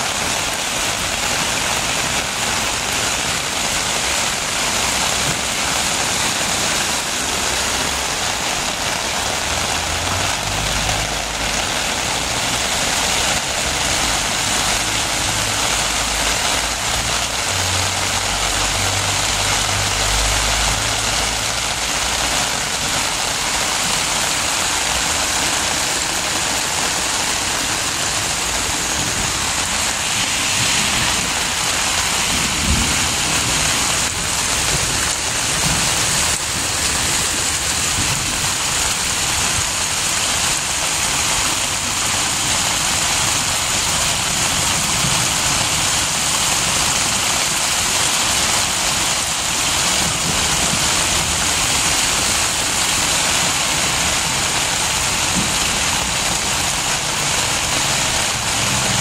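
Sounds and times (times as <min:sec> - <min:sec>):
floodwater rushing and splashing: 0:00.0 - 0:59.0
heavy rain on a flooded street: 0:00.0 - 0:59.0.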